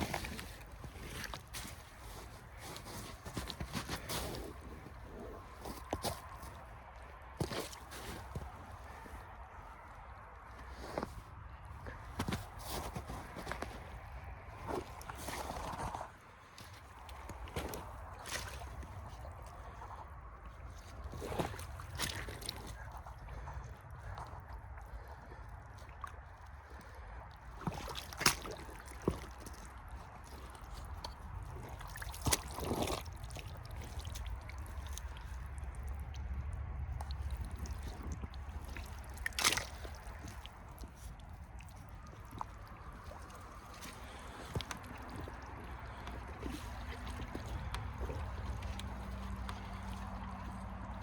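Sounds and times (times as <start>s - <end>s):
boots squelching in mud: 0.0s - 51.0s.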